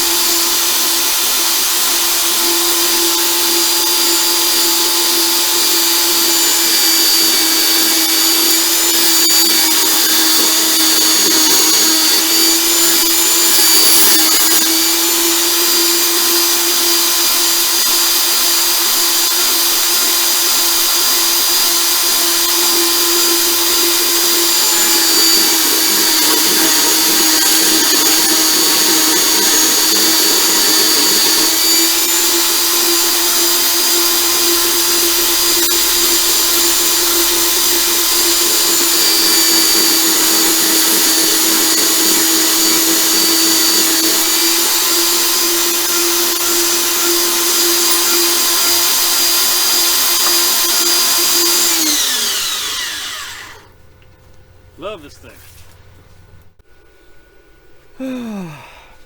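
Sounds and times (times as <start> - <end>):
bandsaw cutting steel: 0.0 - 53.7.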